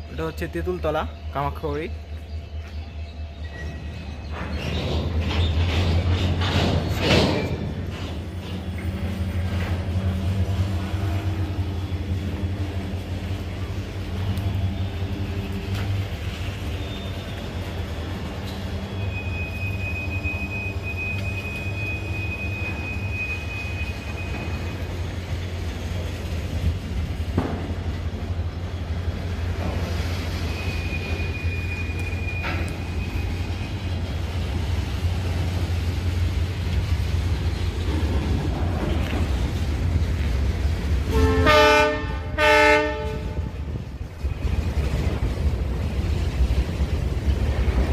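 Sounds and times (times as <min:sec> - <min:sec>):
goods train rumbling past: 0:00.0 - 0:47.9.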